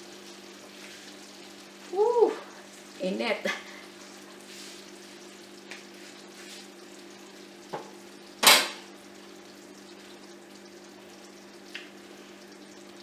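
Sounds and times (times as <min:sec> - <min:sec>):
faint sizzle from a wok: 0:00.0 - 0:13.0.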